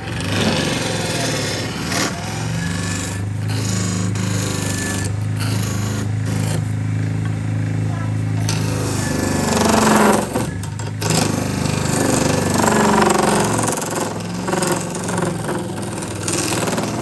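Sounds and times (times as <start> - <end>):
loud motor running: 0.0 - 17.0.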